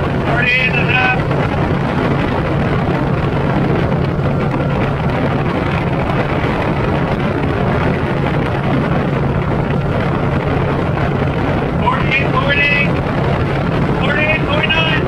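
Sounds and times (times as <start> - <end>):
outboard motor running at high revs: 0.0 - 15.0
wind and water rushing: 0.0 - 15.0.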